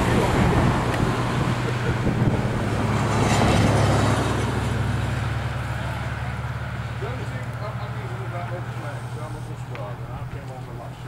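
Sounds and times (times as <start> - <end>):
low engine hum: 0.0 - 11.0
vehicle passing: 0.0 - 11.0.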